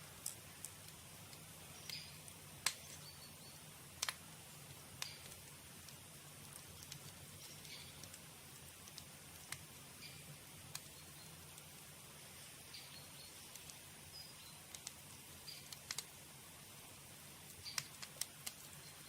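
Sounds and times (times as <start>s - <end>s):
campfire crackling: 0.0s - 19.0s
faint low hum: 0.0s - 19.0s.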